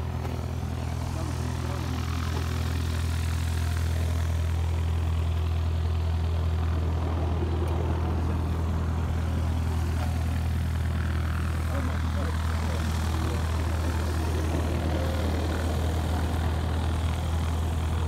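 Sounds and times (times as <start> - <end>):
faint voices: 0.0 - 5.4, 6.0 - 18.0
engine idling: 0.0 - 18.0.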